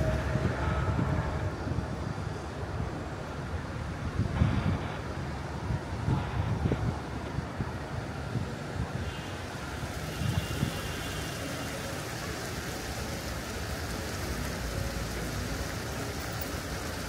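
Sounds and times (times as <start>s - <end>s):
continuous hiss: 0.0s - 17.0s.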